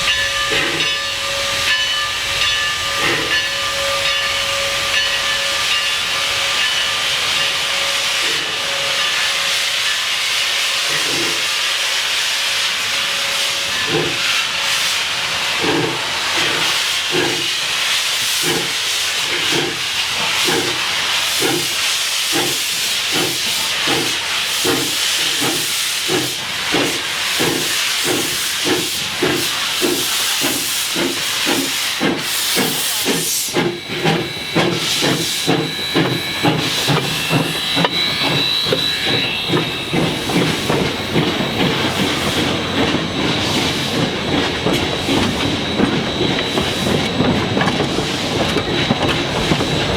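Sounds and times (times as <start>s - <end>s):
steam hissing: 0.0s - 49.9s
steam locomotive chuffing: 0.0s - 49.9s.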